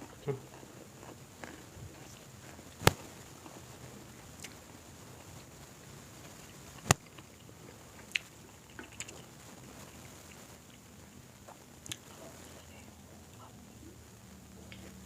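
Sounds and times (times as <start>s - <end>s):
crunching and chewing food: 0.0s - 15.0s.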